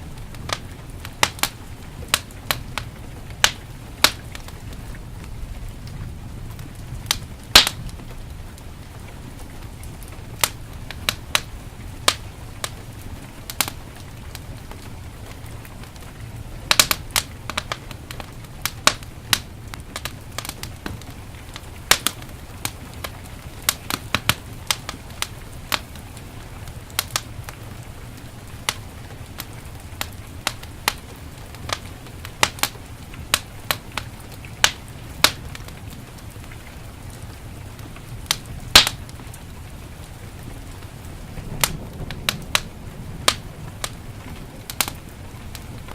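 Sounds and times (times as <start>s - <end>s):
heavy rain: 0.0s - 45.9s
wood fire crackling and popping: 0.0s - 45.9s.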